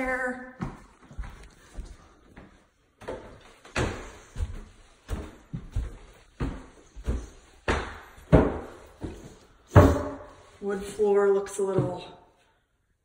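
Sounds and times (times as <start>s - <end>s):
footsteps on wooden stairs: 0.5s - 12.2s.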